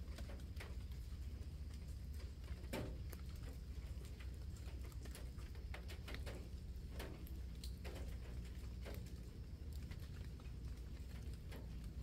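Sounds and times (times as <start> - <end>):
low steady rumble: 0.0 - 12.0
rain dripping on foliage: 0.0 - 12.0.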